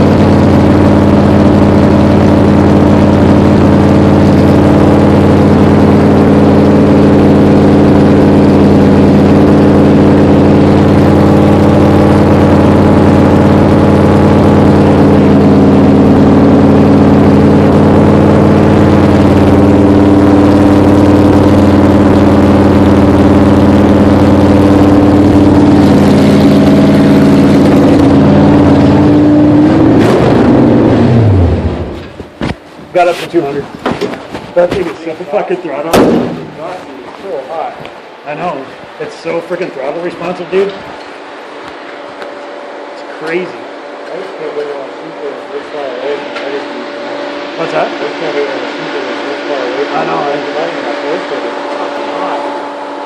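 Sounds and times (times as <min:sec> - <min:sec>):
car engine running loud: 0:00.0 - 0:53.0.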